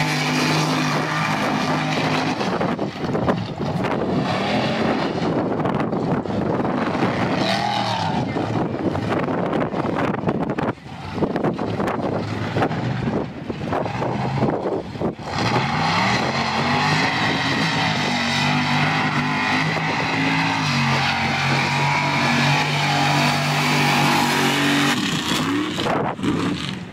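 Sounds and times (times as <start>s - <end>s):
truck engine at full throttle: 0.0s - 26.9s.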